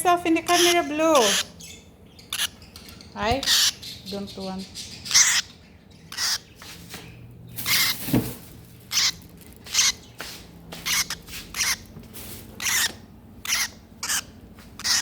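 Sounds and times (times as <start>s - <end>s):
lovebird high-pitched chirps: 0.0s - 8.0s, 8.9s - 10.2s, 10.8s - 11.9s, 12.6s - 15.0s.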